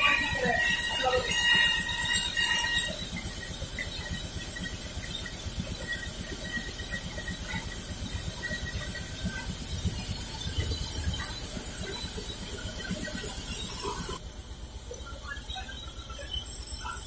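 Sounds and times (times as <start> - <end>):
band saw humming: 0.0 - 14.2.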